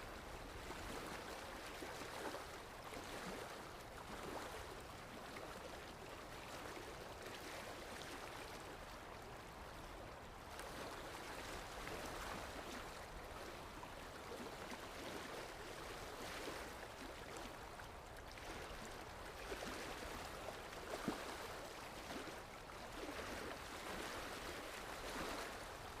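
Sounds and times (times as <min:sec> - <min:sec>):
water lapping and splashing: 0:00.0 - 0:26.0
wind: 0:00.0 - 0:26.0.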